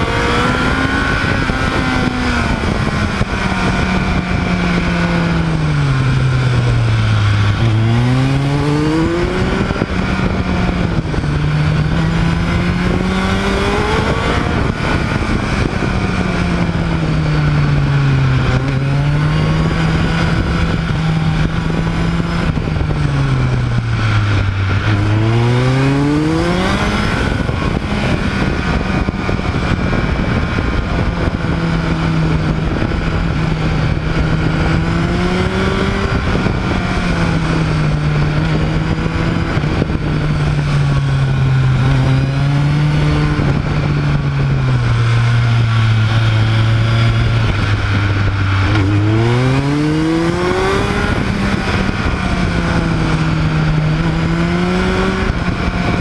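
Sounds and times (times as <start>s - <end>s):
motorcycle engine: 0.0s - 56.0s
rushing wind: 0.0s - 56.0s.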